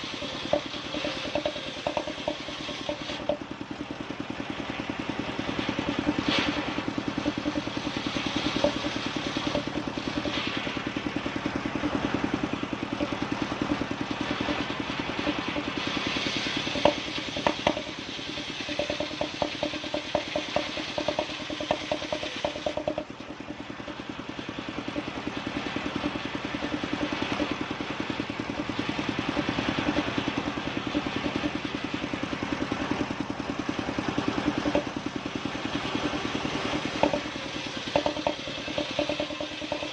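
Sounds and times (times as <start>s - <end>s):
engine-powered wood saw running: 0.0s - 39.9s
rapid clattering: 0.0s - 39.9s.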